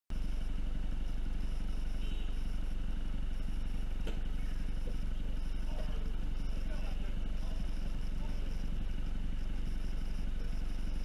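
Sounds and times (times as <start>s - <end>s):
car engine idling: 0.1s - 11.0s.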